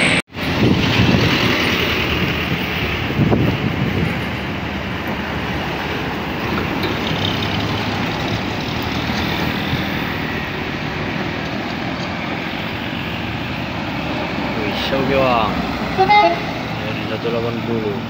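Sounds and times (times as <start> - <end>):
road vehicle engines and tyres: 0.0 - 18.0.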